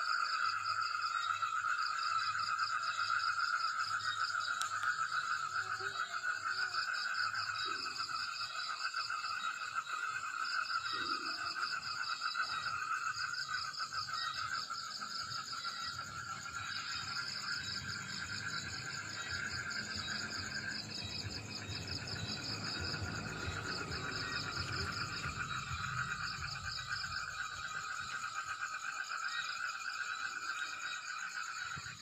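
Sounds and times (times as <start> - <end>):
crickets and insects trilling: 0.0 - 32.0.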